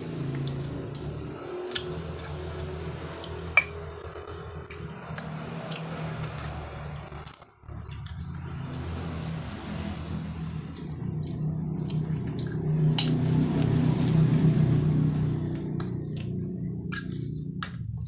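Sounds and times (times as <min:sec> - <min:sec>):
person chewing noodles: 0:00.0 - 0:09.5, 0:10.6 - 0:18.0
steady low hum: 0:00.0 - 0:18.0.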